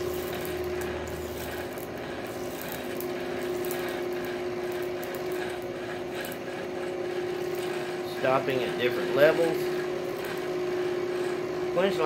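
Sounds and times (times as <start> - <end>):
hot steel sizzling in oil: 0.0 - 12.0
steady mechanical hum: 0.0 - 12.0.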